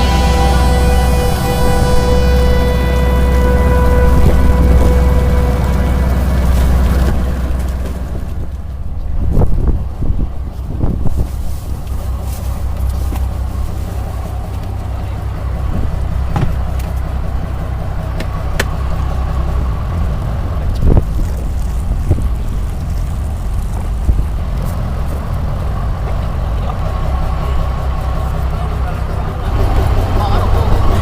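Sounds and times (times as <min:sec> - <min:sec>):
motor engine droning: 0:00.0 - 0:31.0.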